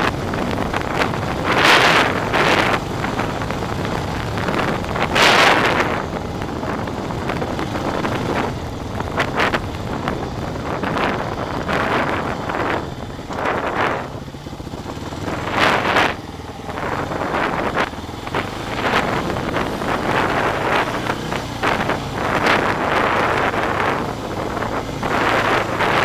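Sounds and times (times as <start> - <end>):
atv engine running: 0.0 - 26.0
wind buffeting microphone: 0.0 - 26.0.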